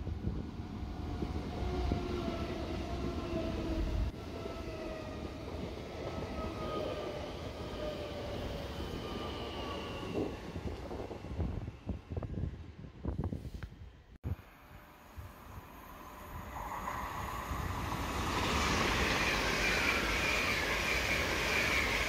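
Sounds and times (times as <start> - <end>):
electric train passing: 0.0 - 12.9, 14.3 - 22.0.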